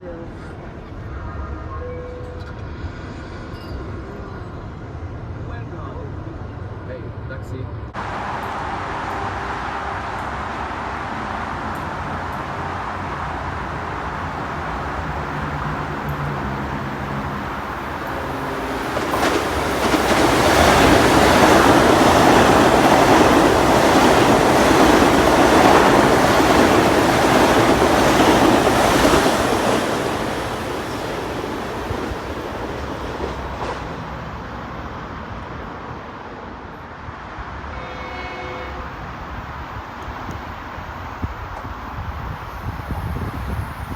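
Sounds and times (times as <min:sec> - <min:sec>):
train rail noise: 0:00.1 - 0:43.9.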